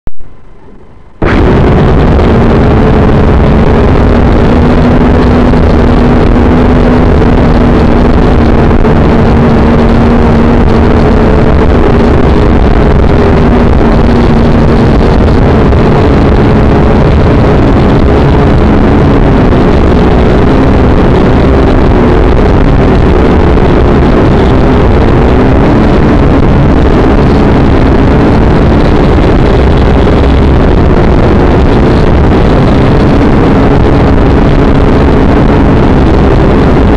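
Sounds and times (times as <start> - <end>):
drone propellers buzzing: 0.2 - 36.9.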